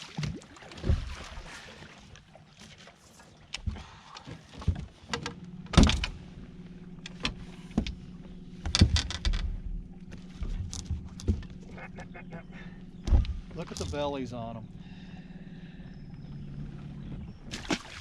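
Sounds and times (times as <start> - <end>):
knocks and clatter on boat: 0.0 - 17.8.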